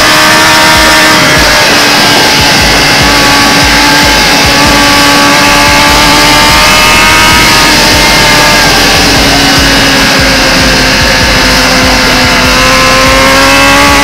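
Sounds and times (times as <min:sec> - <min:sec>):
motorcycle engine at high revs: 0:00.0 - 0:14.0.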